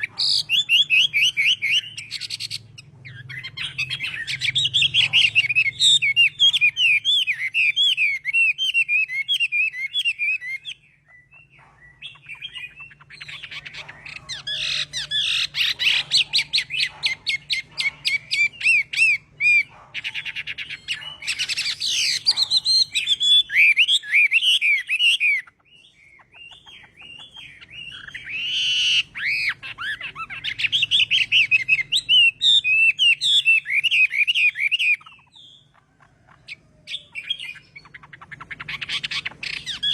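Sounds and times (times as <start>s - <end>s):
bird singing whistled trills: 0.0s - 35.7s, 36.4s - 39.9s.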